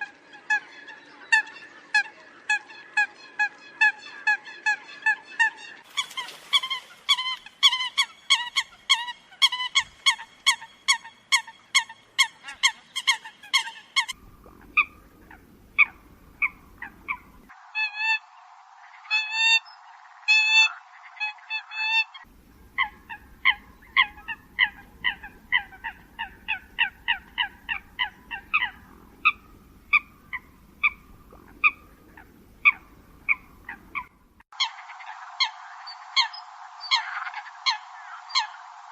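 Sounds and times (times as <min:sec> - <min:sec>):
coot calls: 0:00.5 - 0:18.2, 0:20.3 - 0:38.6.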